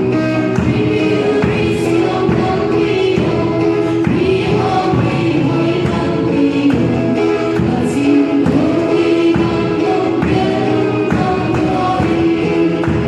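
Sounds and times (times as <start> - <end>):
strummed acoustic guitar: 0.0 - 13.0
women singing gospel: 0.0 - 13.0.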